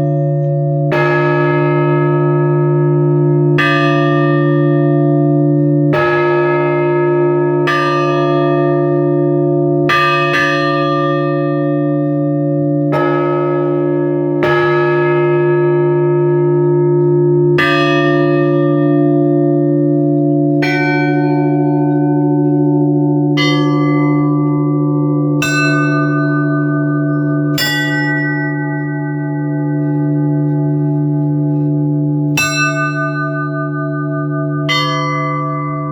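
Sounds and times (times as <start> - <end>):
church bells tolling: 0.0 - 35.9.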